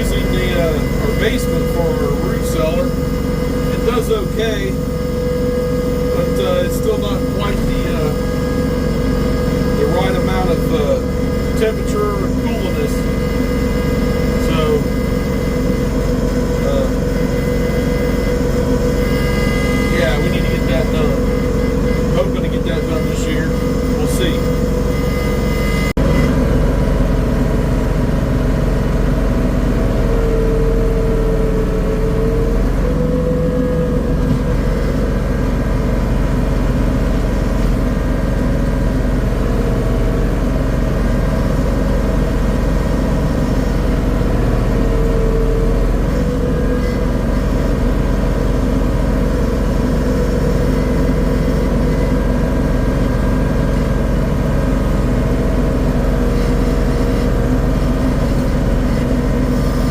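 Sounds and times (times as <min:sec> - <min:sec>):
tiller engine running: 0:00.0 - 0:59.9.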